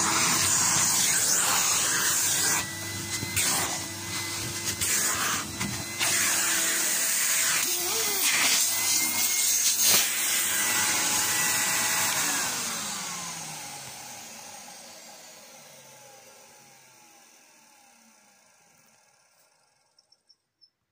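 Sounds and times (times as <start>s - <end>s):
vacuum motor spinning down: 0.0s - 20.0s.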